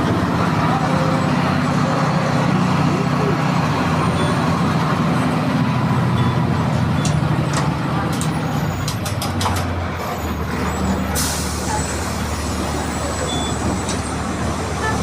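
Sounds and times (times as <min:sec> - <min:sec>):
diesel bus engine running: 0:00.0 - 0:15.0.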